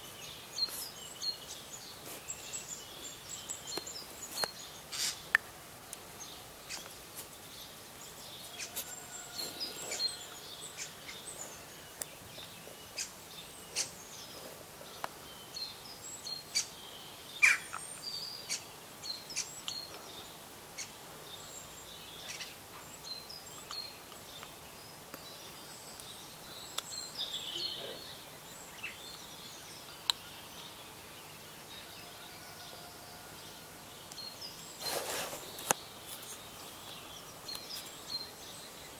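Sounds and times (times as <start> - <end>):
outdoor background hiss: 0.0 - 38.9
songbirds chirping: 0.0 - 38.9.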